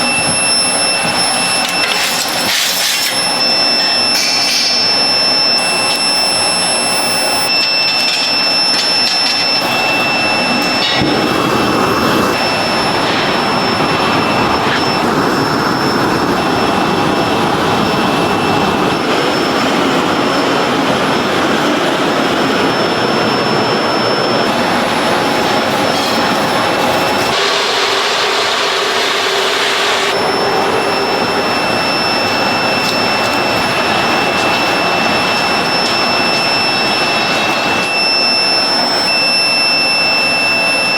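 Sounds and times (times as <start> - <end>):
factory machine rushing: 0.0 - 39.3
high machine whine: 0.0 - 40.9.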